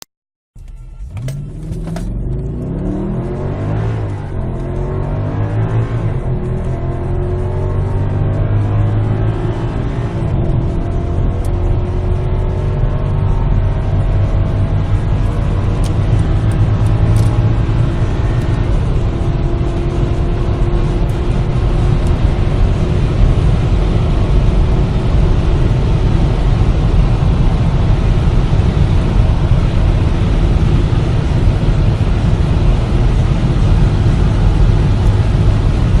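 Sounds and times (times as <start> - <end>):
car engine accelerating: 0.6 - 36.0
wind and road noise: 1.0 - 36.0.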